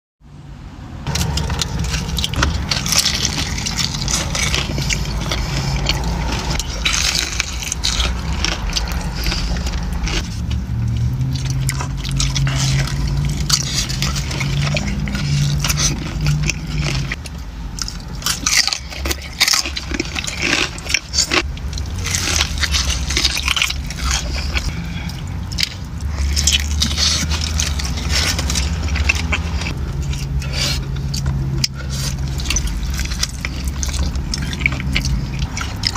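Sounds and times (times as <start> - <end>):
crunchy bites and chewing: 1.0 - 35.9.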